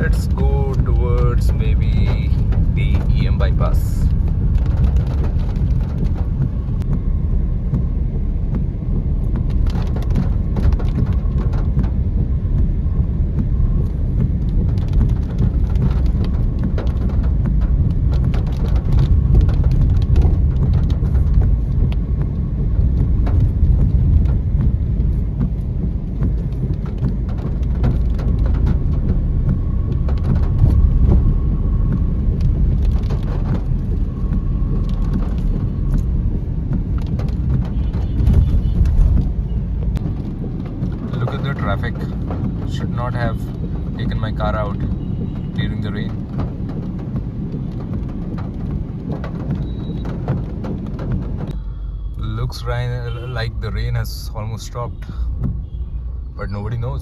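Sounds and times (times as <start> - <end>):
car road and engine rumble: 0.0 - 57.0
rain tapping on car: 0.0 - 57.0.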